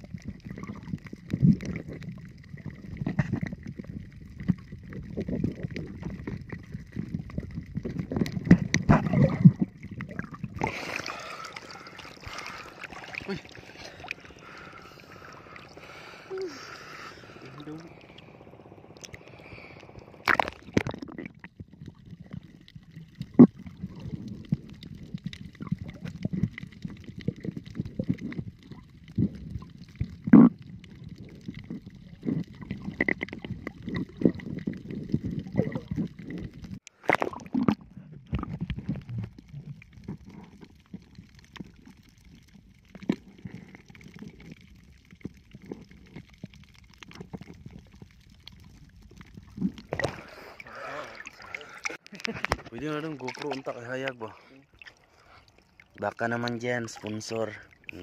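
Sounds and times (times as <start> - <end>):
underwater rumbling and gurgling: 0.0 - 58.0.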